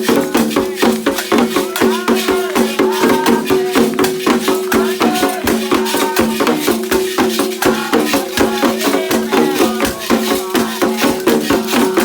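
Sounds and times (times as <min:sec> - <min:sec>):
hand drums beating: 0:00.0 - 0:12.0
voices singing: 0:00.0 - 0:12.0.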